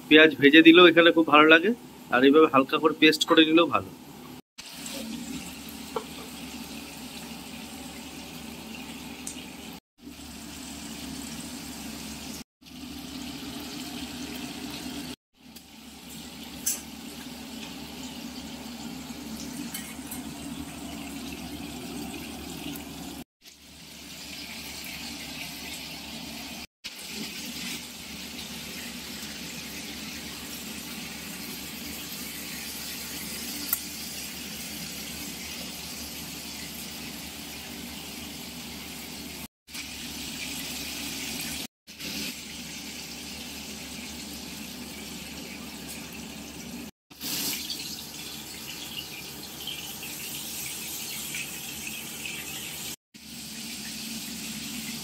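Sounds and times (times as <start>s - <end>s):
paste sizzling in hot oil: 4.6s - 46.0s, 47.1s - 55.0s.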